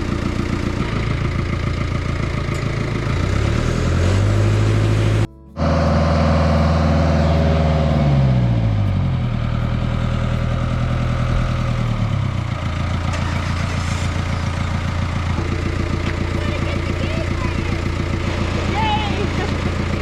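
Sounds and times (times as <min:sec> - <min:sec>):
boat lift engine running: 0:00.0 - 0:20.0.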